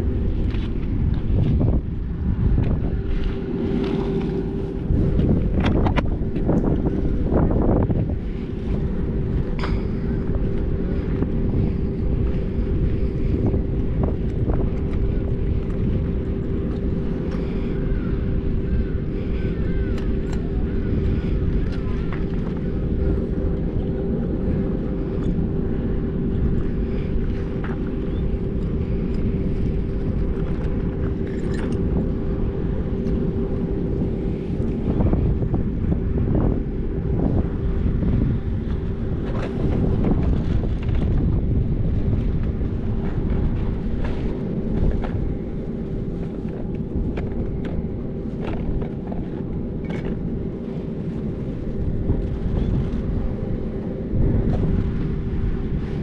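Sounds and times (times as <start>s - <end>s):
mechanical drone: 0.0s - 56.0s.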